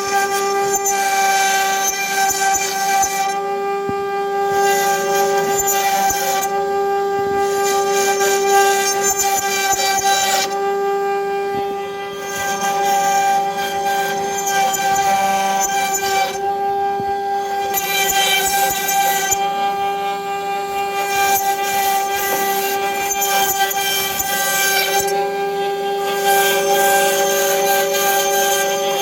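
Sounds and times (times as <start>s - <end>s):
bit carving wood: 0.0s - 29.0s
router spindle whine: 0.0s - 29.0s.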